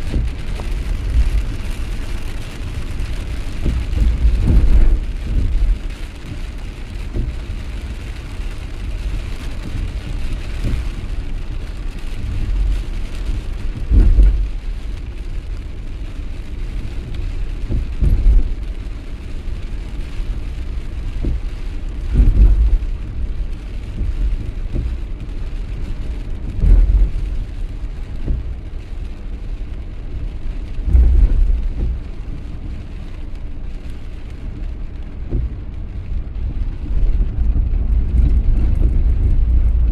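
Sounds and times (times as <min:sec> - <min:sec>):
heavy rain: 0:00.0 - 0:39.9
low rumble: 0:00.0 - 0:39.9.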